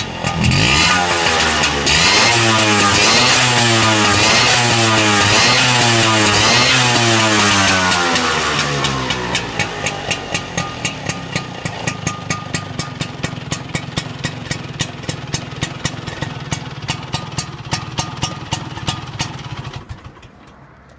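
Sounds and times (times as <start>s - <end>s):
scooter two-stroke engine running: 0.0s - 20.9s.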